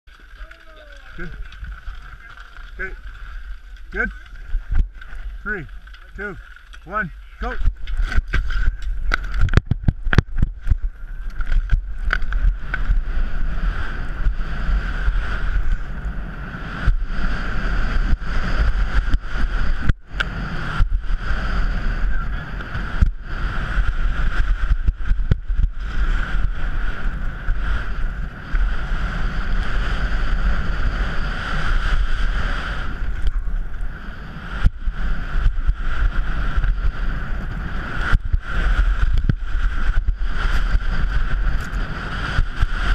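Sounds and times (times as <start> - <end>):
skis scraping over snow: 0.1 - 42.9
wind buffeting microphone: 0.4 - 42.9.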